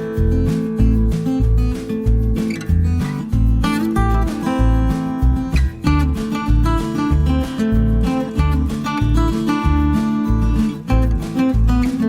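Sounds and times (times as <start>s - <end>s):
pulsing bass line: 0.0s - 12.0s
strummed acoustic guitar: 0.0s - 12.0s.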